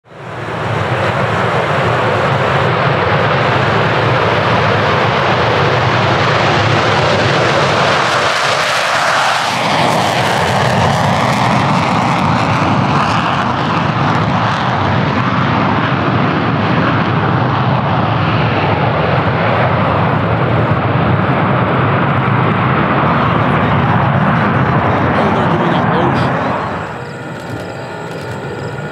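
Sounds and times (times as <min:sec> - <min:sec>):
jet noise: 0:00.0 - 0:28.9.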